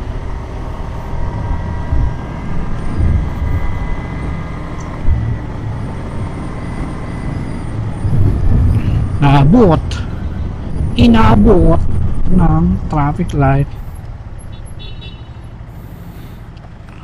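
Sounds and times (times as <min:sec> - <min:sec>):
wind rumble over microphone: 0:00.0 - 0:14.7
motorcycle engine: 0:00.0 - 0:17.0.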